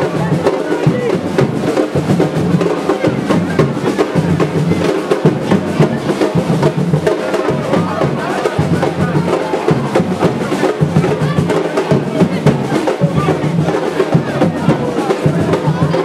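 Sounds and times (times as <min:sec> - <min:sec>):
drums and percussion beating: 0:00.0 - 0:16.0
voices: 0:00.0 - 0:16.0.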